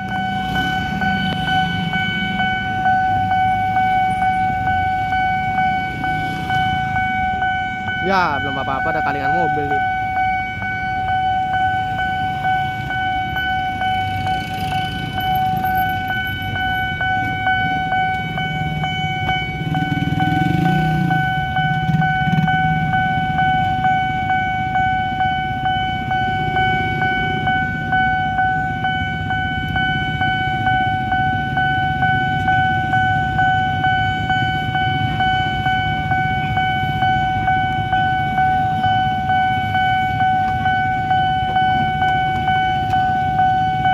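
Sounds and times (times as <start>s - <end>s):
level crossing alarm tone: 0.0s - 43.9s
motorbike engines: 0.0s - 43.9s.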